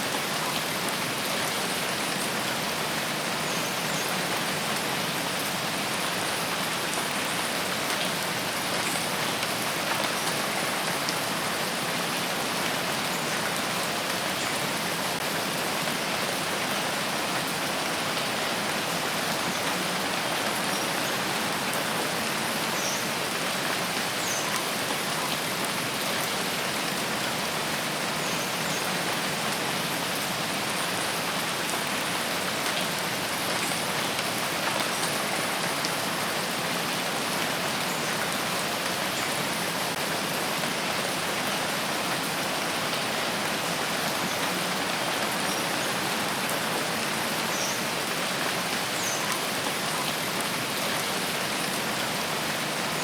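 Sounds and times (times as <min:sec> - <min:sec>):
rain falling in a forest: 0:00.0 - 0:53.0.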